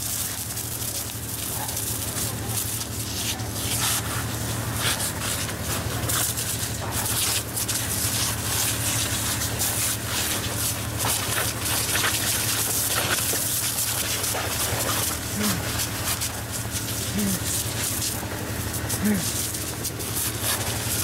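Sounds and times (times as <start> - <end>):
fire hose spraying water: 0.0 - 21.0
steady low hum: 0.0 - 21.0.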